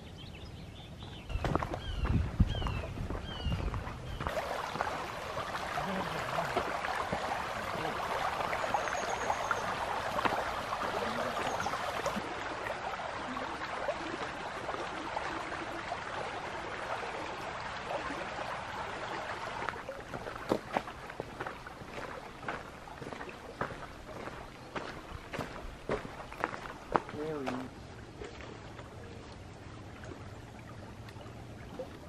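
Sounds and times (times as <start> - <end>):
water rushing in a canal: 0.8 - 32.0.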